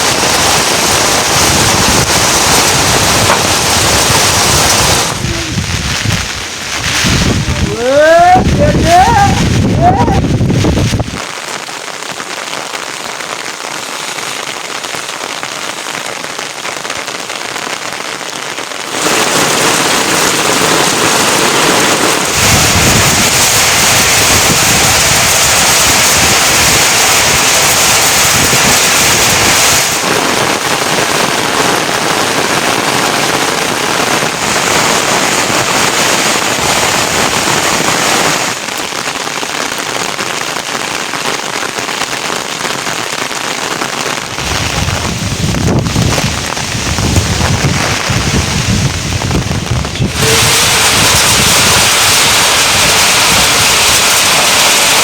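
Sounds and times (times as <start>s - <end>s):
heavy rain spattering: 0.0s - 55.0s.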